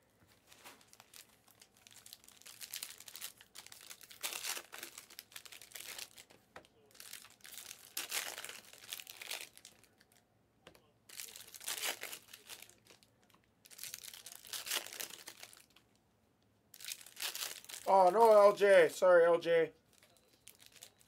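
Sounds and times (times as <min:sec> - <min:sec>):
wrappers tearing and crinkling: 0:00.5 - 0:10.2, 0:11.1 - 0:15.8, 0:16.7 - 0:18.6, 0:19.9 - 0:21.0.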